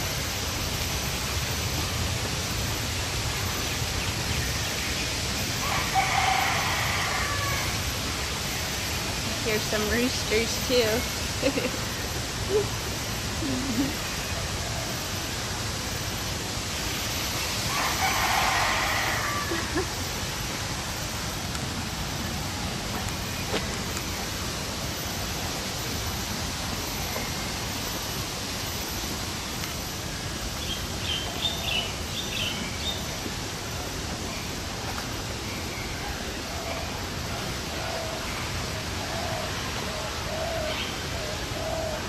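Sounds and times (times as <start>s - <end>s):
steady rushing background noise: 0.0s - 42.0s.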